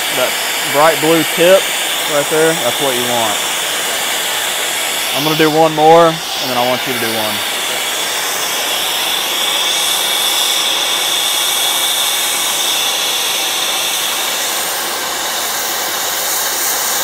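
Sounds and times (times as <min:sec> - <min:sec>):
torch flame hissing: 0:00.0 - 0:17.0.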